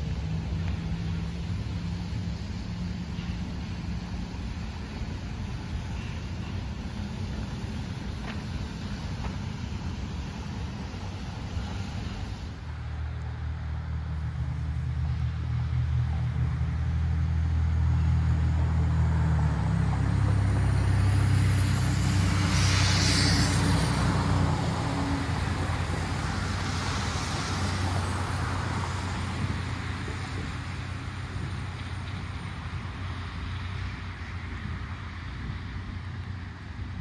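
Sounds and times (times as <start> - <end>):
engine hum: 0.0 - 37.0.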